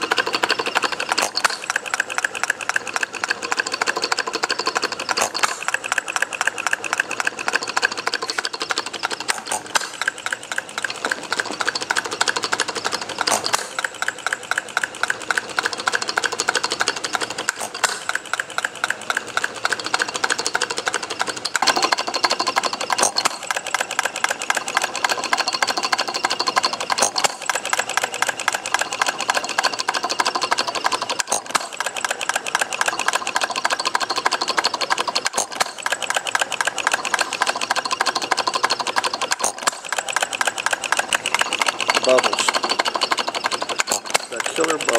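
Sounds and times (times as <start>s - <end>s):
miniature engine clattering: 0.0s - 44.9s.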